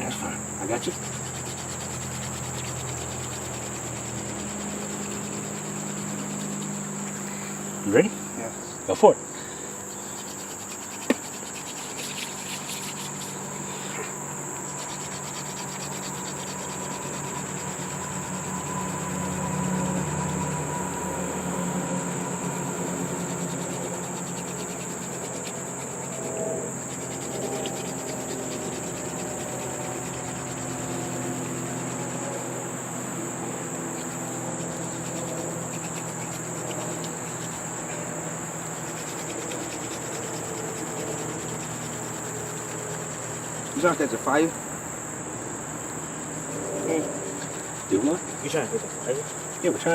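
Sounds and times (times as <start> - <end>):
hand-drill spindle rubbing wood: 0.0 - 8.1, 9.7 - 44.6, 46.9 - 49.9
crickets chirring: 0.0 - 49.9.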